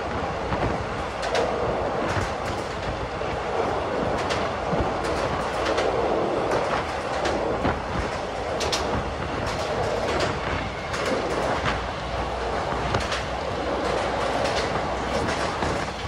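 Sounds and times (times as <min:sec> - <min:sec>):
train carriage rumbling: 0:00.0 - 0:16.0
wheels clicking on rails: 0:00.0 - 0:16.0.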